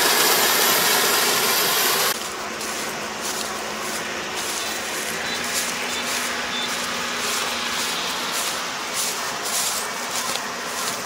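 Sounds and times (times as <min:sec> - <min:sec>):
constant hissing: 0:00.0 - 0:11.0
engine running steadily: 0:00.0 - 0:11.0.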